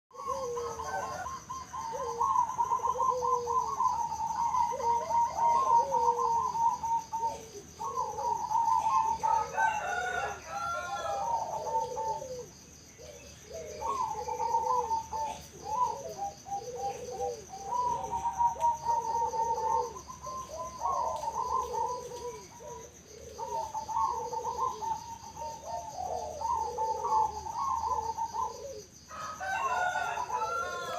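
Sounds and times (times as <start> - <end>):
doves cooing: 0.1 - 30.9.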